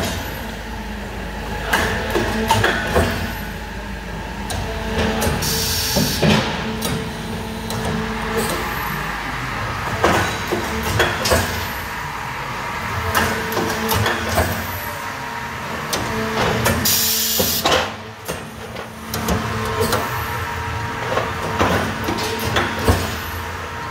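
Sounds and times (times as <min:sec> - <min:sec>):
machine hum: 0:00.0 - 0:23.9.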